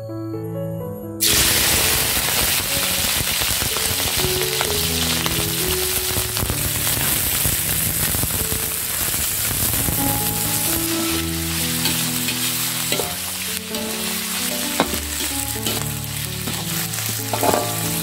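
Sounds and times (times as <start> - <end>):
background music: 0.0 - 18.0
snails sizzling in hot oil: 1.2 - 18.0.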